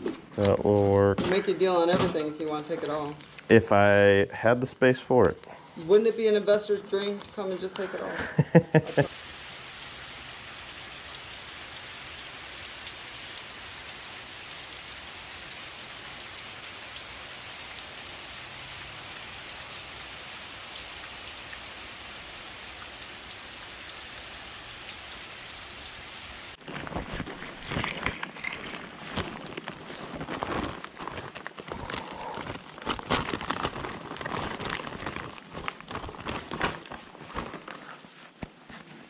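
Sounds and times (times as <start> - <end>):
rain pattering: 6.2 - 37.7.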